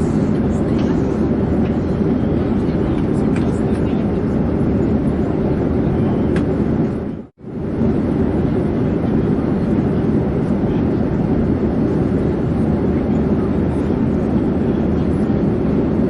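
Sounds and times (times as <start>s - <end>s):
airplane low drone: 0.0s - 16.0s.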